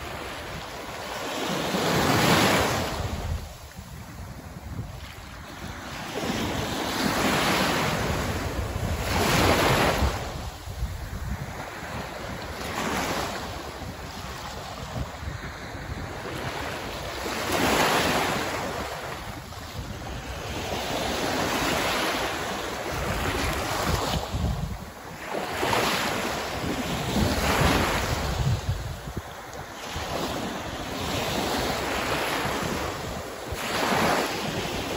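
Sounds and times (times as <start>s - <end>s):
small waves washing ashore: 0.0s - 34.9s
wind buffeting microphone: 0.0s - 34.9s.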